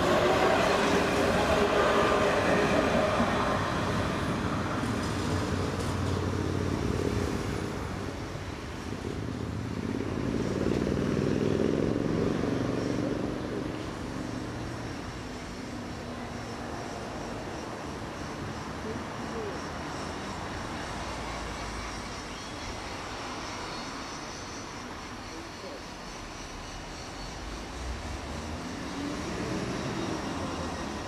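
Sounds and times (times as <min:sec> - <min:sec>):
tram motor and wheel hum: 0:00.0 - 0:31.0.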